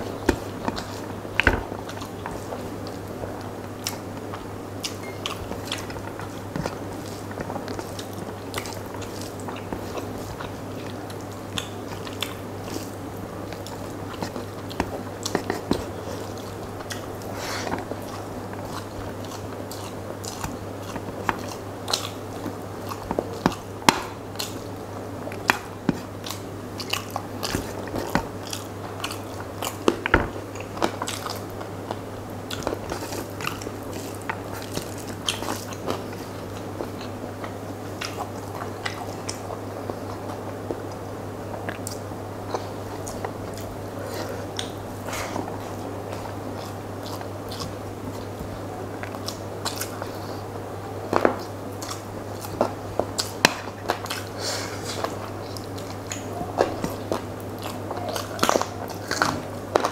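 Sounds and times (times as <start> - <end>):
wet chewing: 0.0 - 59.9.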